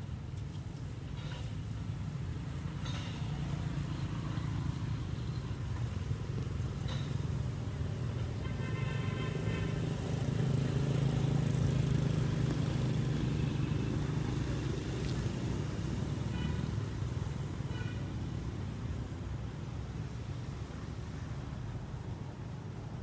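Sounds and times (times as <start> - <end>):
road traffic engine rumble: 0.0 - 23.0.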